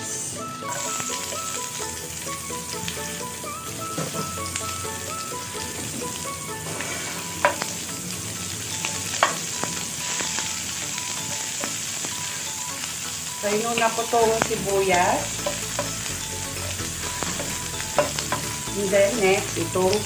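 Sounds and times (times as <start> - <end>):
onion sizzling in oil: 0.0 - 20.0
spatula stirring in pan: 0.1 - 13.2, 13.8 - 19.4.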